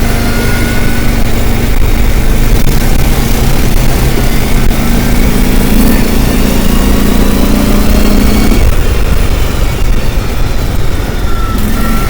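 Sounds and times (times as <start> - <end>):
steady hum: 0.0 - 12.0
vehicle engine rumbling: 0.0 - 12.0.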